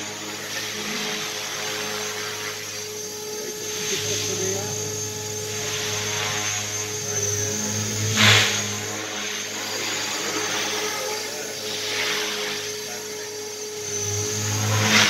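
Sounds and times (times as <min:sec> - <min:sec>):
toy helicopter motor whine: 0:00.0 - 0:15.0.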